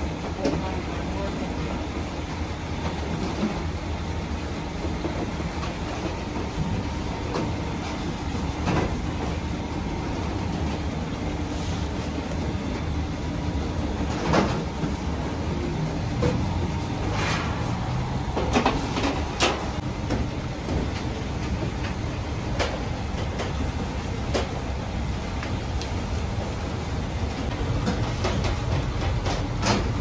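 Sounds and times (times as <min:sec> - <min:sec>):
bakery machinery rumble and hum: 0:00.0 - 0:30.0.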